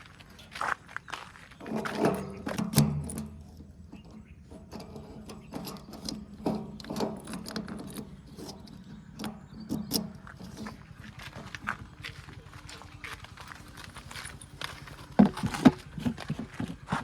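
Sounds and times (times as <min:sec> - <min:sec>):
diesel engine running: 0:00.0 - 0:17.0
metal clanks and knocks: 0:00.0 - 0:17.0.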